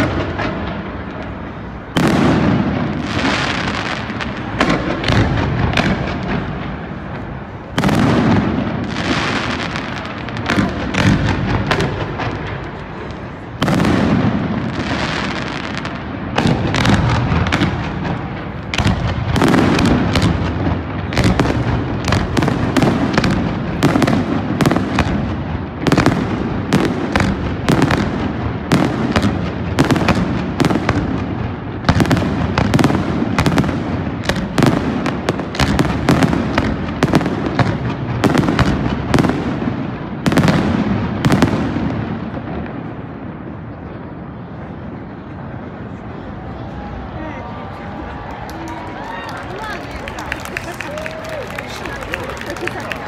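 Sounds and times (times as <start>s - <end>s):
fireworks booming: 0.0s - 46.5s
fireworks crackling and rumble: 0.0s - 53.0s.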